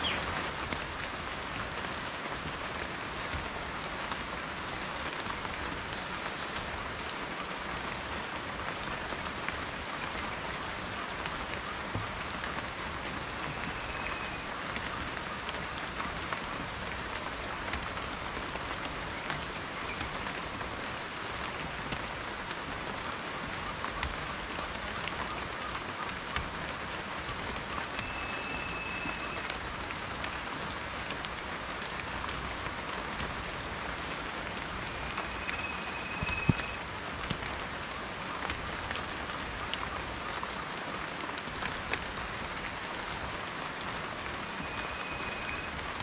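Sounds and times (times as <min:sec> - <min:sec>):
rain falling: 0:00.0 - 0:46.0.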